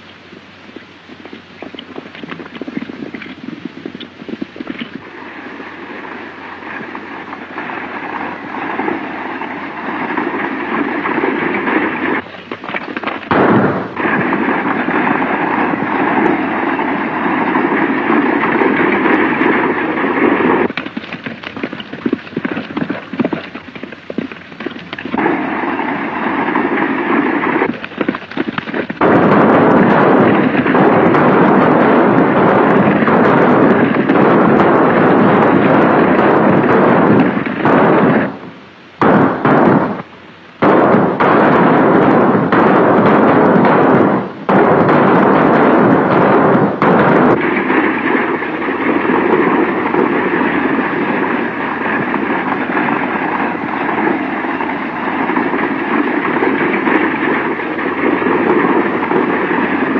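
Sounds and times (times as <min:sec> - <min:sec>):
soundtrack crackle: 0:00.3 - 0:59.9
gunfire: 0:05.8 - 0:59.9.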